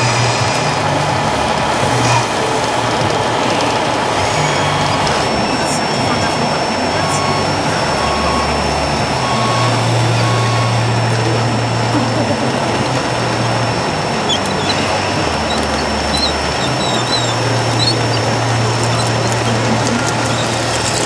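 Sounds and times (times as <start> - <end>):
crowd voices: 0.0 - 21.0
model engine sound drone: 0.0 - 21.0.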